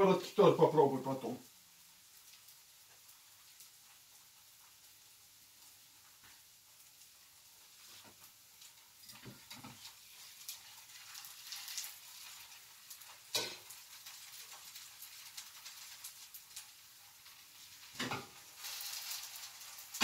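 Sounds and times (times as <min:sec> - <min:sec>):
batter sizzling in oil: 0:00.0 - 0:20.0.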